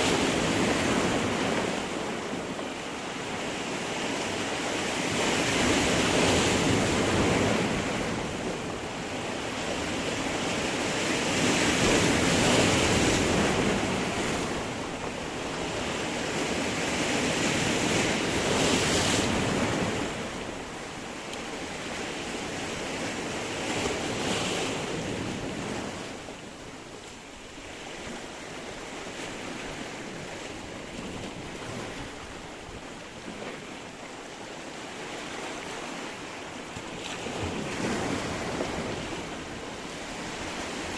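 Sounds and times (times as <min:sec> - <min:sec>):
waves breaking on stony shore: 0:00.0 - 0:40.9.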